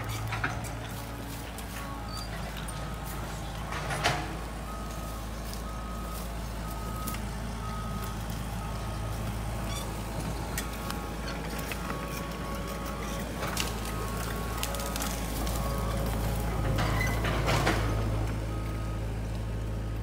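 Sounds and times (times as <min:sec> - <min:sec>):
diesel engine rumble: 0:00.0 - 0:20.0.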